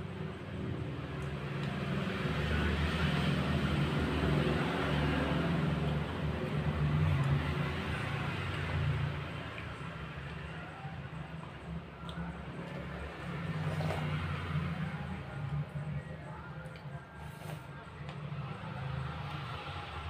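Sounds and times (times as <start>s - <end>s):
motor vehicle passing: 0.0s - 20.0s.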